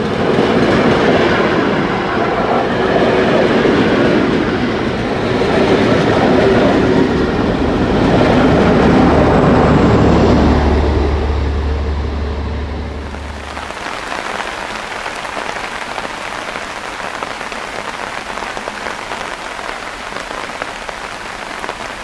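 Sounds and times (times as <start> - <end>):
steam train rolling past: 0.0 - 22.0.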